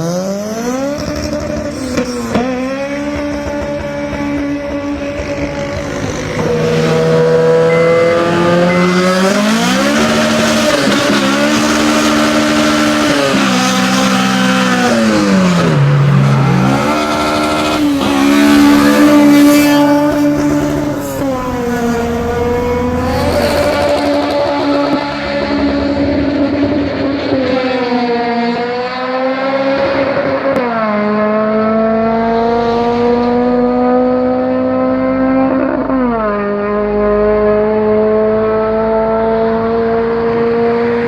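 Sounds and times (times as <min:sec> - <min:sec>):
car engine revving hard: 0:00.0 - 0:41.0.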